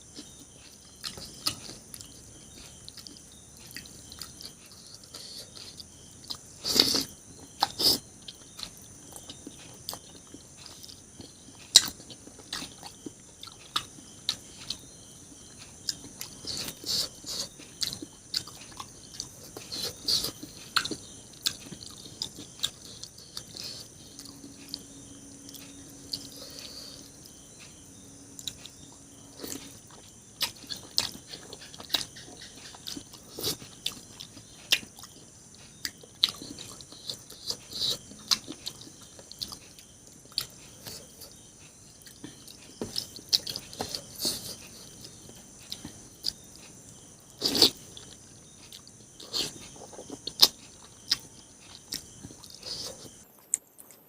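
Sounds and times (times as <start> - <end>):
chewing and biting food: 0.1 - 54.0.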